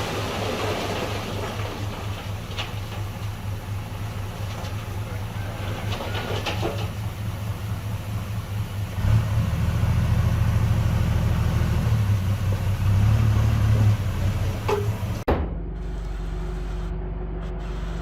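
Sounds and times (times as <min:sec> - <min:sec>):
heavy diesel engine rumbling: 0:00.0 - 0:18.0.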